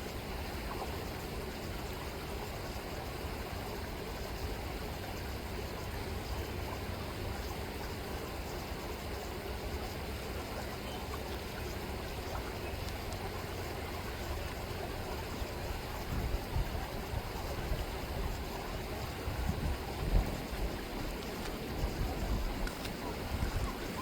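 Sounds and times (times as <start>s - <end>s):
river water rippling: 0.0s - 24.0s.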